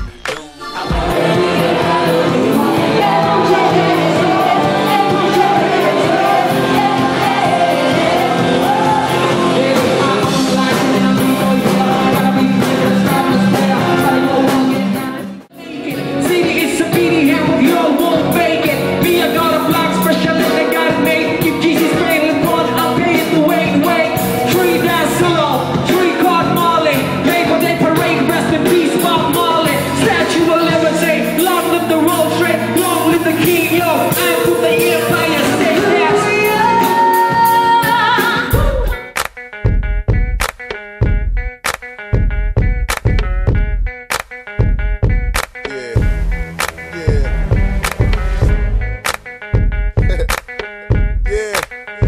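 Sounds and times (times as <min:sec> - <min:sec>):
loud music with singing: 0:00.0 - 0:39.1, 0:45.4 - 0:52.0.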